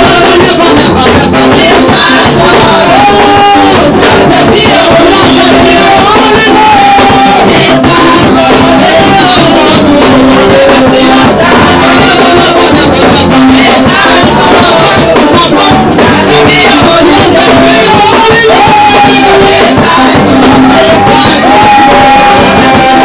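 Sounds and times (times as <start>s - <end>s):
live gospel singing: 0.0s - 23.0s
repeating bass line: 0.0s - 23.0s.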